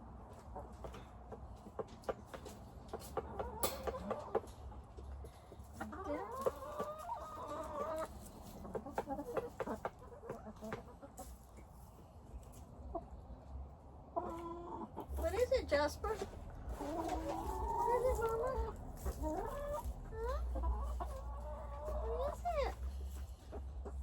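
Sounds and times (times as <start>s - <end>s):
chickens clucking: 0.1s - 24.0s.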